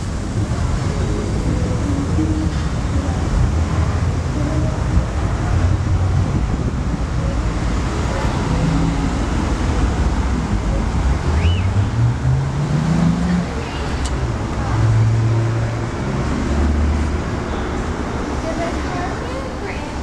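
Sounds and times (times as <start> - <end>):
wind buffeting microphone: 0.0 - 16.1
street traffic: 0.0 - 20.0.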